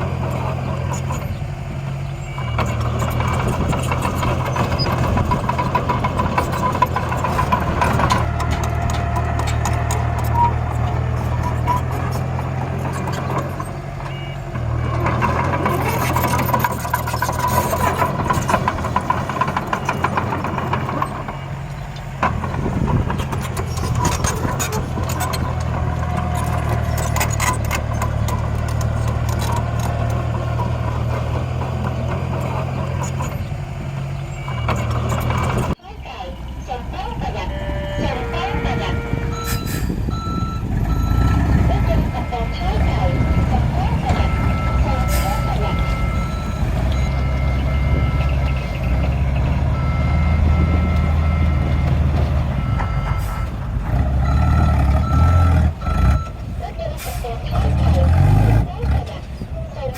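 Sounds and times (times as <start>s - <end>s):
heavy machinery engine droning: 0.0s - 59.9s
reversing alarm beeping: 2.0s - 33.5s, 34.1s - 35.8s, 37.1s - 59.0s.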